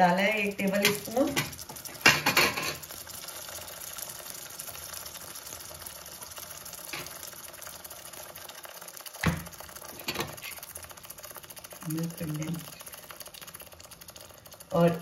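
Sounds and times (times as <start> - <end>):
butter sizzling in caramel: 0.0 - 15.0.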